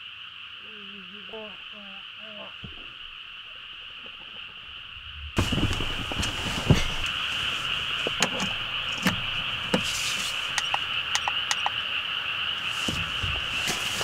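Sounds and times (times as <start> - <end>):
night chorus of calling animals: 0.0 - 14.0.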